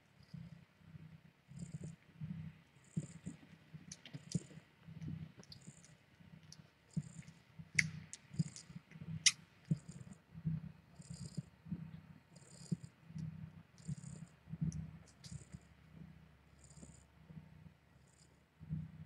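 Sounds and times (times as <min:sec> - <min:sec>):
cat purring: 0:00.2 - 0:19.0.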